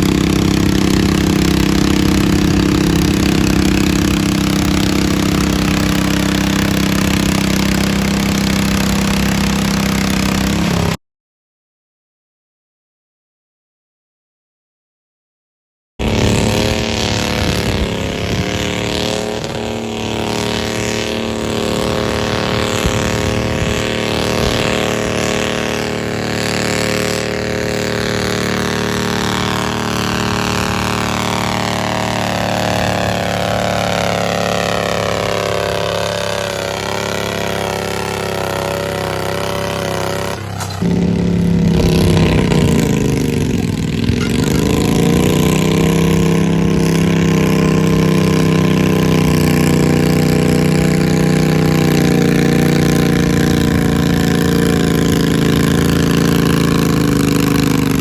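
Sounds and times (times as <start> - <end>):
deep loud engine note: 0.0 - 11.0, 16.0 - 58.0
tractor engine at full throttle: 0.0 - 11.0, 16.0 - 58.0.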